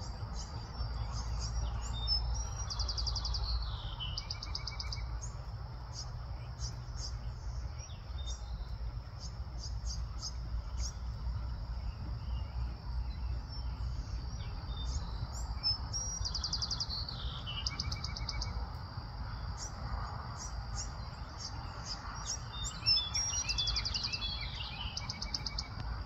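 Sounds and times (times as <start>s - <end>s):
high insect drone: 0.0s - 26.0s
low background rumble: 0.0s - 26.0s
small birds chirping and trilling: 0.0s - 26.0s.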